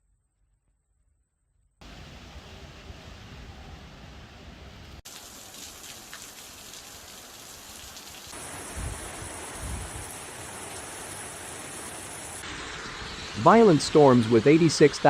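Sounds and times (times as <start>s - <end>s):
heavy rain hiss: 1.8s - 4.2s, 5.0s - 15.0s.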